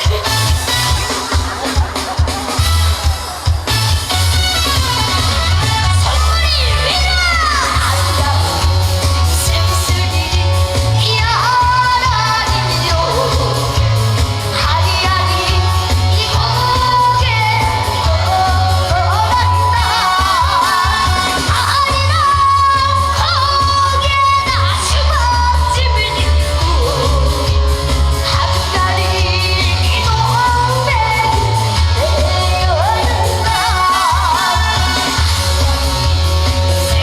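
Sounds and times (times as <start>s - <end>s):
band backing track: 0.0s - 37.0s.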